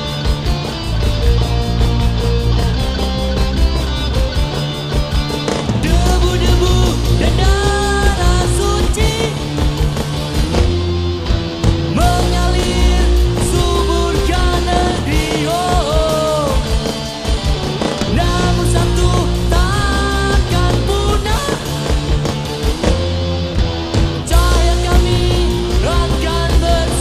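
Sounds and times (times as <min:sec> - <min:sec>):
punk rock band playing: 0:00.0 - 0:27.0.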